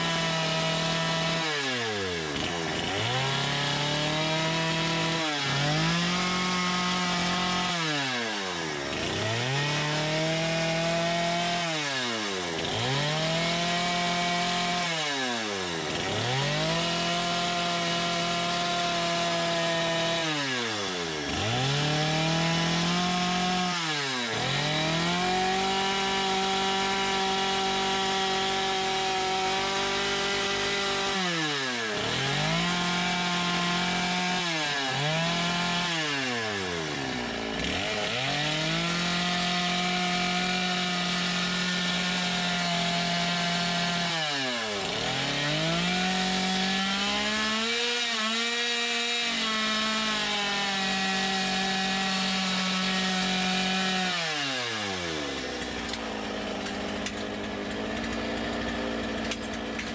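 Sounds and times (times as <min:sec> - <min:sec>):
chainsaw revving cutting wood: 0:00.0 - 0:59.9.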